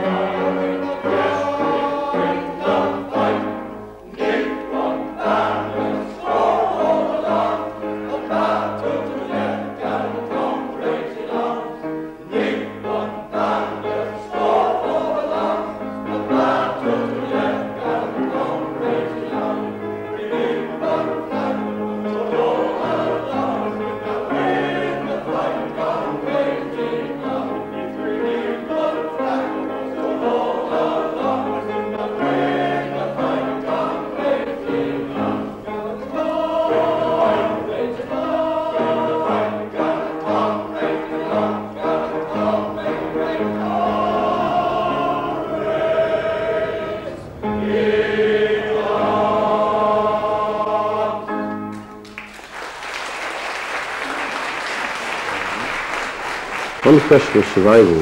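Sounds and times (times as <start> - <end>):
male choir singing in harmony: 0.0 - 52.0, 54.0 - 58.0.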